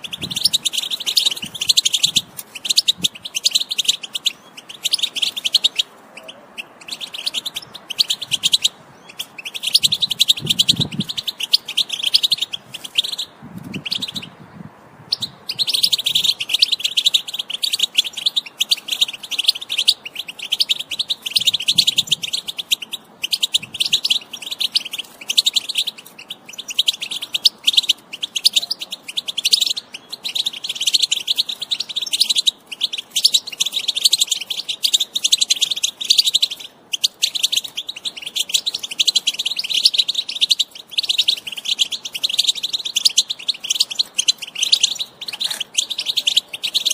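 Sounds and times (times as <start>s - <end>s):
finch twittering song: 0.0s - 46.9s.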